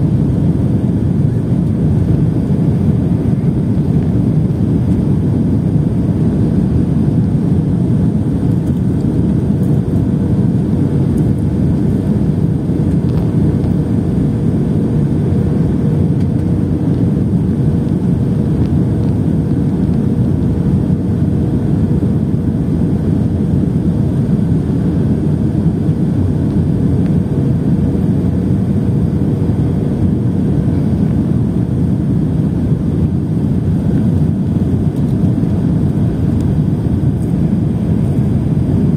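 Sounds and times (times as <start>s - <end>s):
airplane low rumble: 0.0s - 38.9s
faint constant hum: 0.0s - 38.9s.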